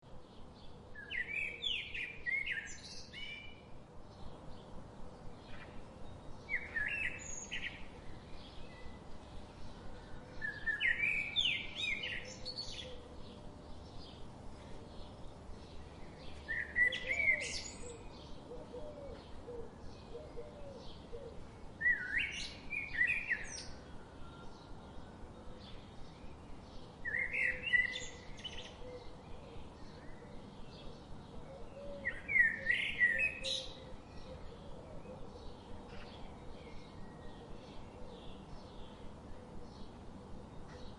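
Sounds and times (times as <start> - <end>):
nightingale song phrases: 0.1 - 40.9.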